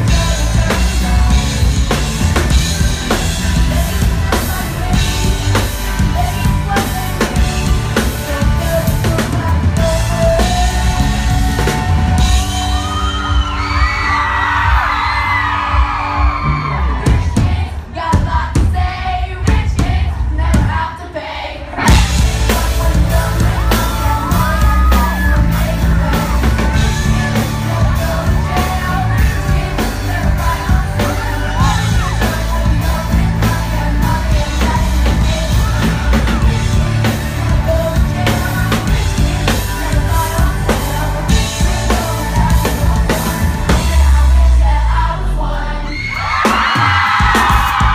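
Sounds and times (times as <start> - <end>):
female lead vocal: 0.0 - 46.6
audience yelling and singing: 0.0 - 47.9
live pop-rock band: 0.0 - 47.9.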